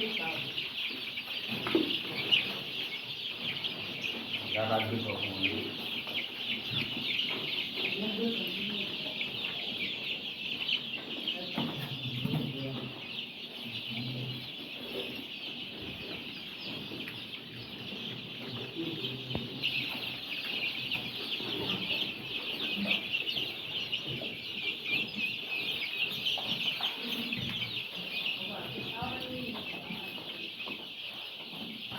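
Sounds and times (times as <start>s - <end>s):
chicks peeping: 0.0s - 31.9s.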